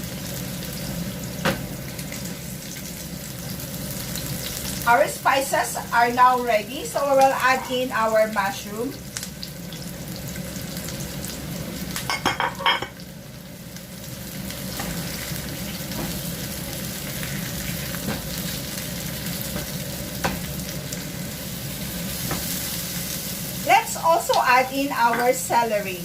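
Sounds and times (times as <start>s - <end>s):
mushrooms sizzling in a pan: 0.0s - 26.0s.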